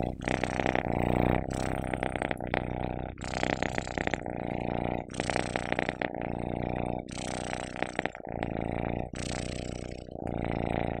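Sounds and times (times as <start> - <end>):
cat purring loudly: 0.0 - 11.0.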